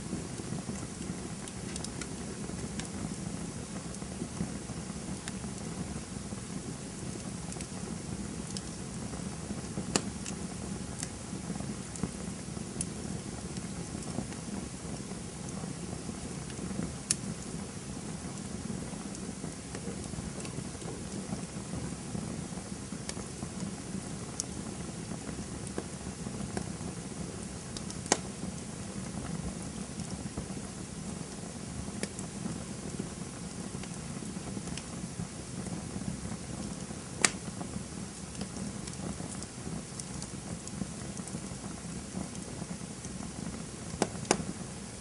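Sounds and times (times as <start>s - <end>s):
campfire crackling: 0.0s - 45.0s
sharp fire pops: 0.0s - 45.0s.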